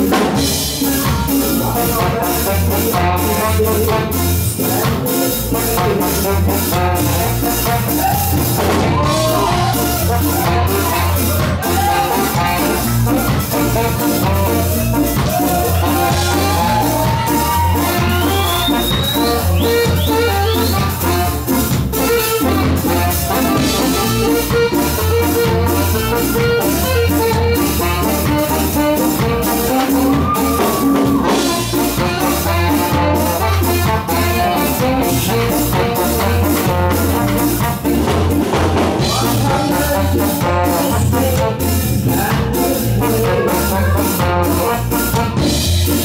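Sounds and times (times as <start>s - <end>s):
ska band playing: 0.0s - 46.0s
trombone and saxophone horns: 0.0s - 46.0s.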